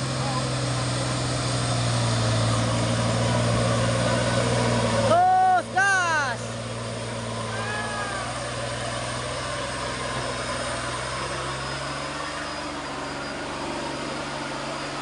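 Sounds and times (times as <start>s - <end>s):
heavy truck diesel engine: 0.0s - 15.0s.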